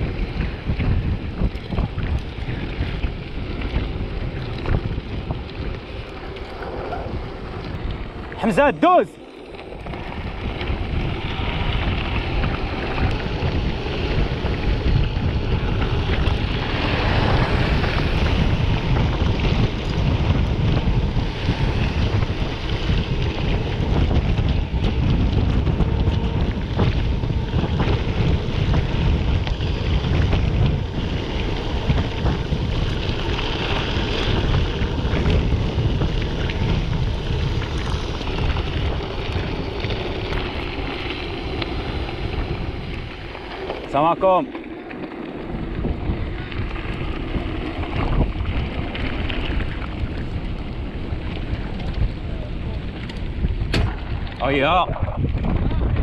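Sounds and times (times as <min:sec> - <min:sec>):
bike rattling and clicking: 0:00.0 - 0:56.0
wind buffeting microphone: 0:00.0 - 0:56.0.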